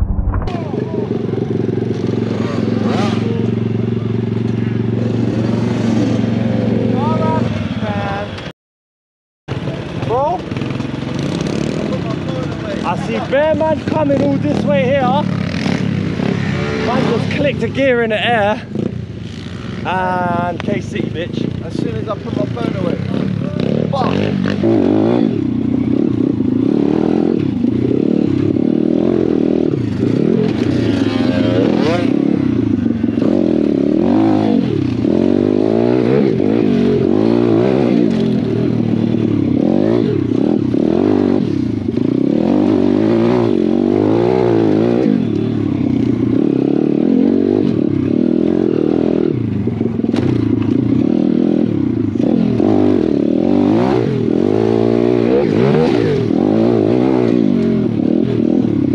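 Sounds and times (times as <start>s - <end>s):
motorbike engine revving: 0.0s - 8.3s, 9.5s - 58.9s.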